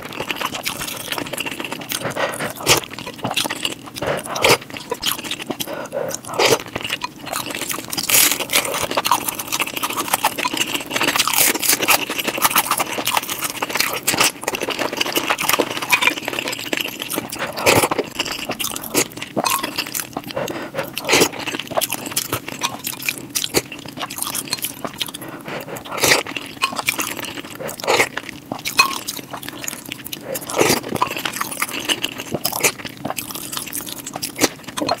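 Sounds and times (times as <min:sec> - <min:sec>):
person chewing food: 0:00.0 - 0:35.0.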